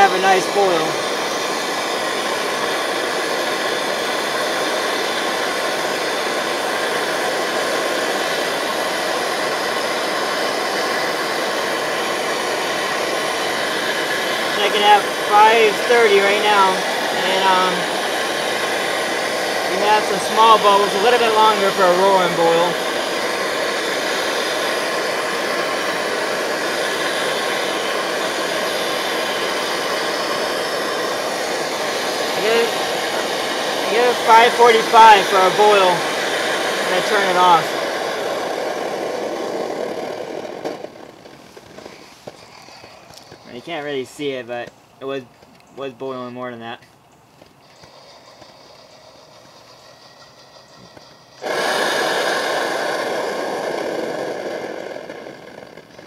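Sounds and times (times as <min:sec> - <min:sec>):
camping stove burner rushing: 0:00.0 - 0:46.3, 0:47.4 - 0:56.0.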